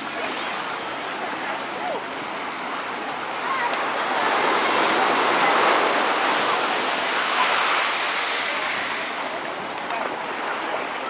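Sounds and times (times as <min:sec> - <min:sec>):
faint voices: 0:00.0 - 0:11.0
waves washing on shore: 0:00.0 - 0:11.0.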